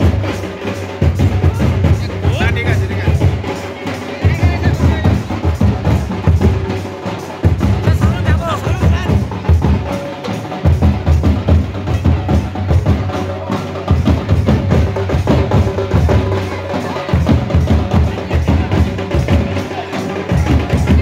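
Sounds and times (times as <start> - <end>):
folk dance music with drums: 0.0 - 21.0.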